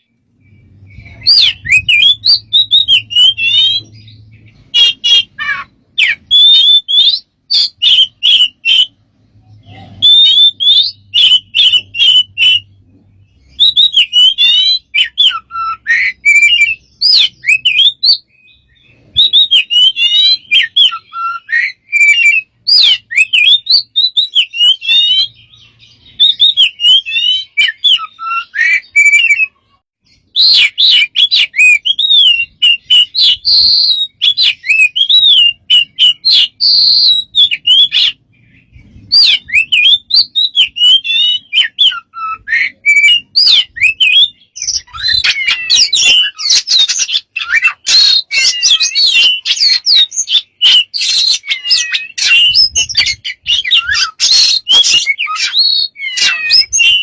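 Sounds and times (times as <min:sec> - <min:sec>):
bird warbling whistles and chirps: 0:00.0 - 0:57.0.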